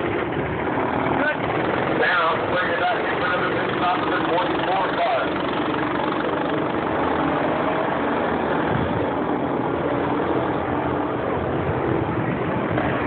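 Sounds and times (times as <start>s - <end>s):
go-kart engines running: 0.0s - 13.0s.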